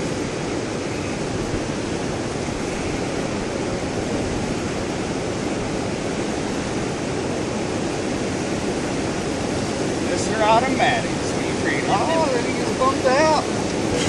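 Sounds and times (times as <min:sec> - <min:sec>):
whitewater rapids rushing: 0:00.0 - 0:14.0.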